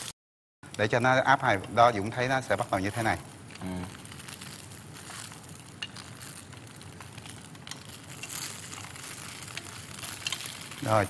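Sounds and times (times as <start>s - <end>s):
rolls sizzling in a frying pan: 0.8s - 11.0s.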